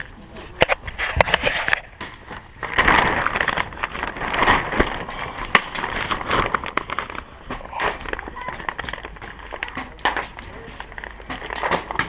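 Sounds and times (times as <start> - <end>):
dense rattling: 2.2 - 12.0.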